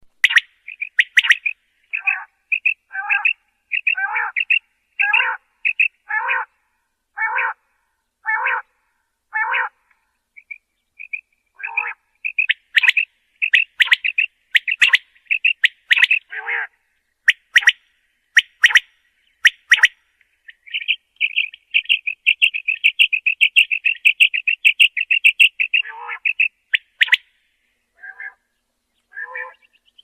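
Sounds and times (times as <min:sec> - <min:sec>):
quail calling: 0:00.2 - 0:06.6, 0:07.2 - 0:07.6, 0:08.2 - 0:08.7, 0:09.3 - 0:09.8, 0:10.4 - 0:17.8, 0:18.4 - 0:27.3, 0:28.0 - 0:28.4, 0:29.1 - 0:30.0.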